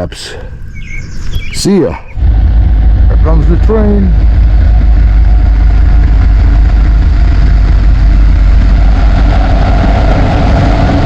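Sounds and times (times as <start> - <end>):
train passing rumble: 1.6 - 11.0.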